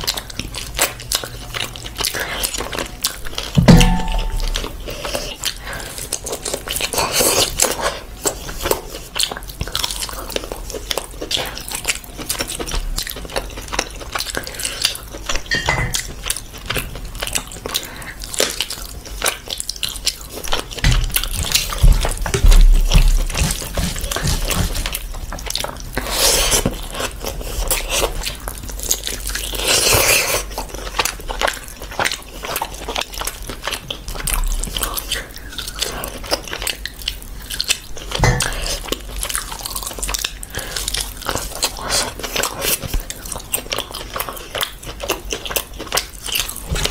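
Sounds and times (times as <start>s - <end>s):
wet chewing and lip smacks: 0.0s - 46.9s.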